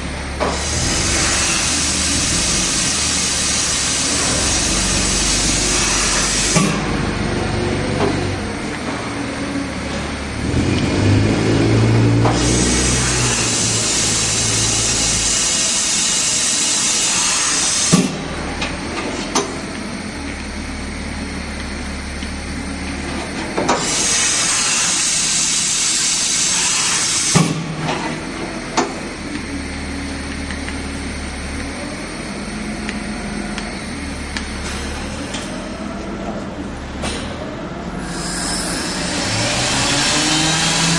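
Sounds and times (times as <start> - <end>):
machine hissing: 0.0 - 35.9, 38.0 - 40.9
low machine hum: 0.0 - 40.9.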